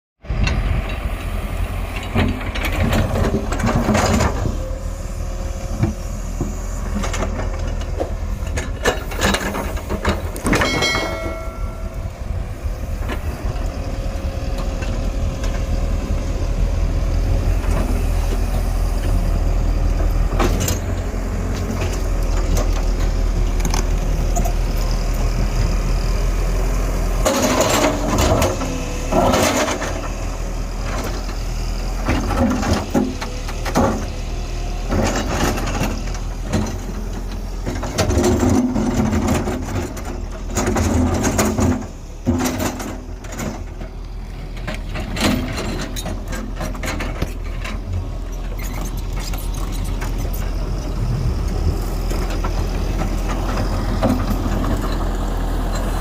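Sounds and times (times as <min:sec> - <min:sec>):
excavator diesel engine rumble: 0:00.2 - 0:56.0.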